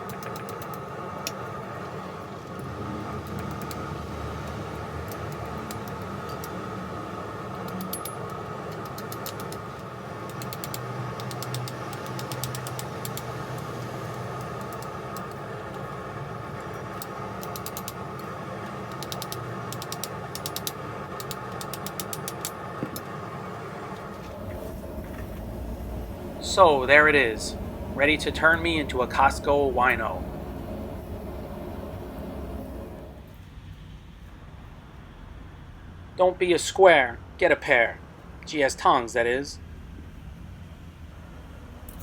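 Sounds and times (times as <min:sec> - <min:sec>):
steady mechanical hum: 0:00.0 - 0:42.0.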